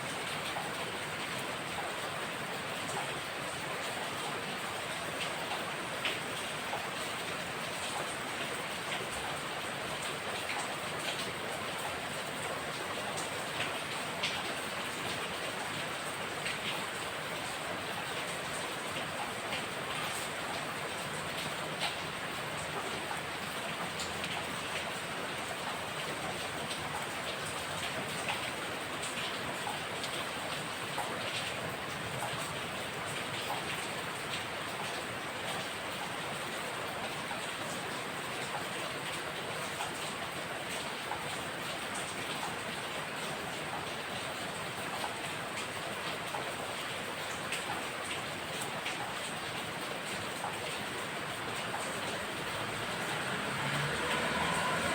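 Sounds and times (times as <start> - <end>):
raindrops ticking on a surface: 0.0 - 54.9
steady rain: 0.0 - 54.9.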